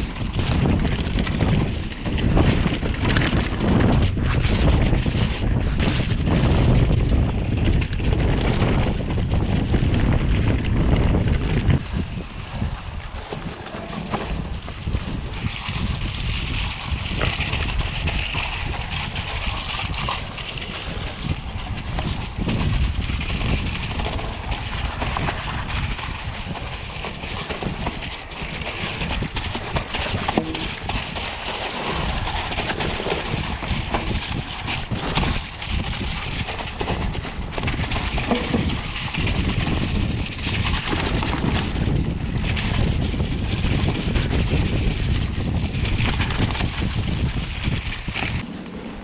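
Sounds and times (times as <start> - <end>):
bike clicking and rattling: 0.0 - 49.0
tyres rolling through mud and leaves: 0.0 - 49.0
wind buffeting microphone: 0.0 - 49.0.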